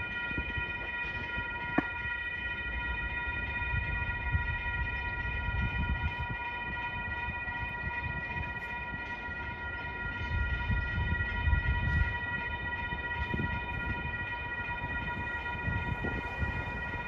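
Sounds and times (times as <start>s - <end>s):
railroad crossing bell ringing: 0.0s - 17.0s.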